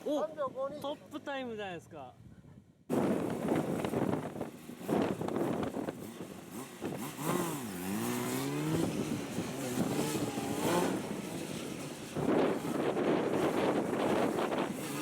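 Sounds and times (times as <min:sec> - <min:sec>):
wind noise on microphone: 0:02.2 - 0:15.0
motorcycle engine revving: 0:02.9 - 0:15.0.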